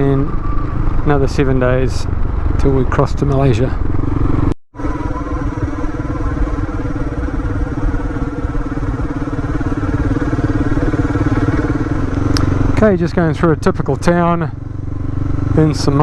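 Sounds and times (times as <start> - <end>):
motorcycle engine running: 0.0 - 16.0
road and wind rumble: 0.0 - 16.0.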